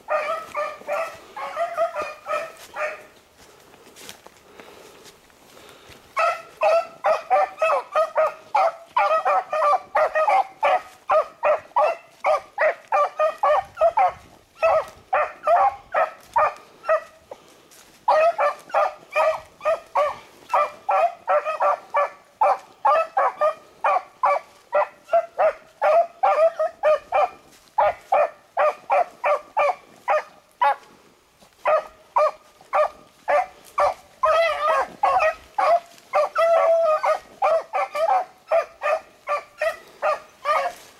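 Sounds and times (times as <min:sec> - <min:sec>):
beagles baying: 0:00.0 - 0:03.5, 0:05.9 - 0:40.9.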